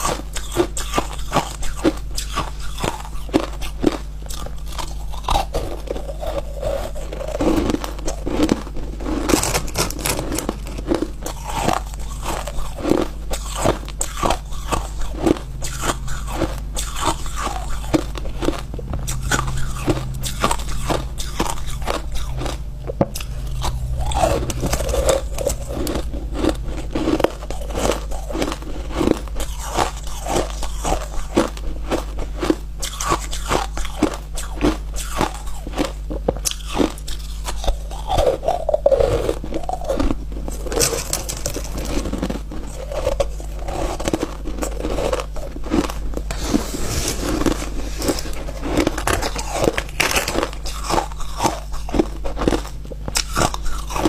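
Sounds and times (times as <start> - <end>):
person chewing ice crunching: 0.0 - 54.0.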